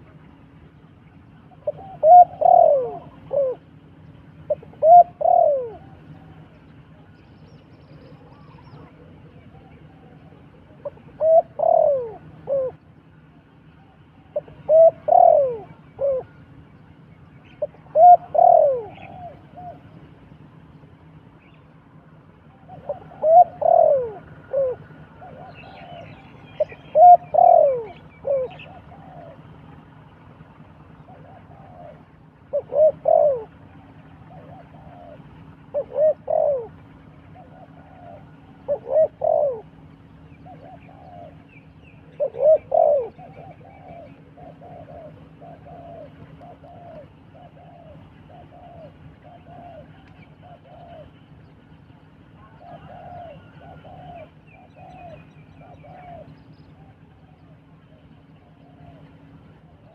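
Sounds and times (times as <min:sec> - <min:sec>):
dove cooing: 0:00.0 - 0:59.9
faint bird chirps: 0:00.0 - 0:59.9.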